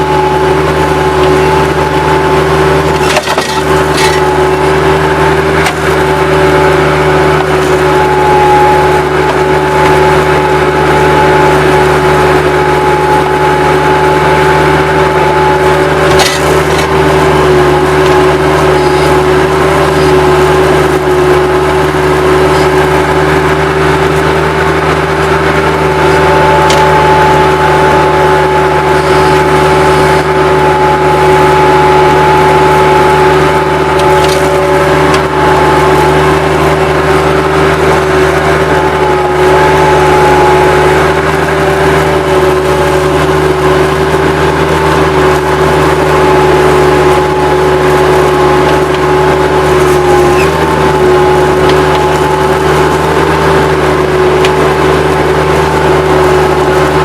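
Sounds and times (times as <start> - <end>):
skid-steer loader engine drone: 0.0 - 57.0.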